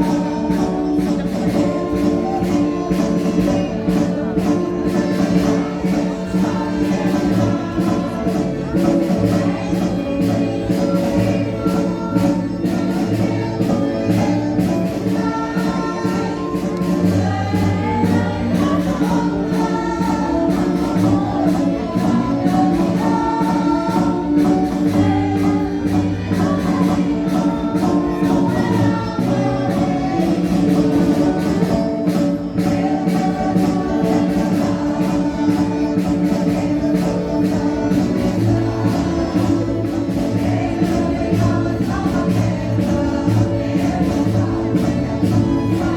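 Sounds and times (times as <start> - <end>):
band accompaniment: 0.0 - 45.9
chorus singing a march: 0.0 - 45.9.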